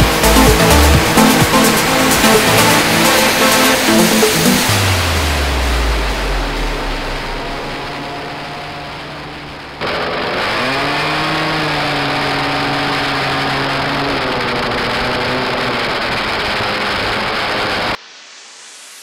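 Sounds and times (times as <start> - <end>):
scooter engine accelerating: 0.0 - 18.0.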